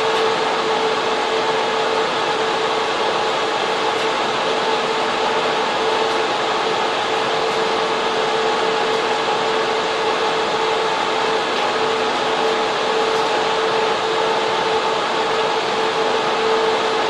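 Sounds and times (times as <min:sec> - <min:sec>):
server fans rushing: 0:00.0 - 0:17.0.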